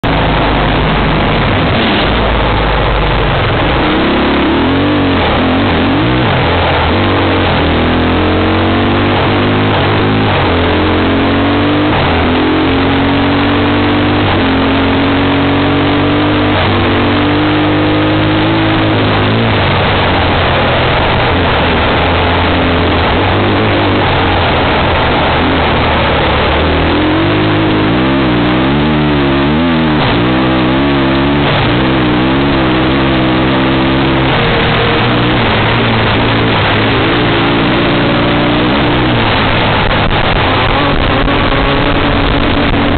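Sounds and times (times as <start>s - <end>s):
motorbike engine revving: 0.0s - 42.9s
wind and road noise: 0.0s - 42.9s.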